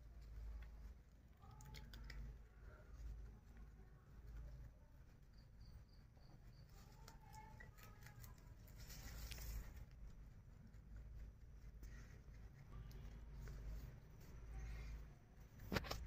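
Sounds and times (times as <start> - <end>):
rabbits chewing grass: 0.0 - 16.0.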